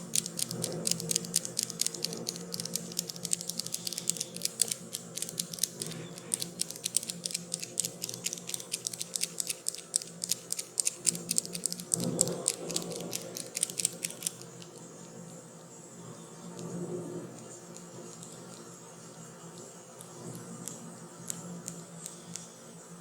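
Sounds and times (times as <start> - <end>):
crisp high clicks: 0.0 - 14.9, 17.4 - 22.5.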